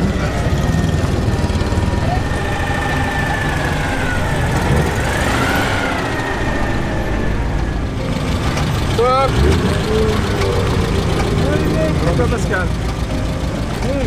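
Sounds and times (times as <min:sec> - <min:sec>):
car engines running: 0:00.0 - 0:14.0
small car engine puttering past: 0:00.0 - 0:14.0.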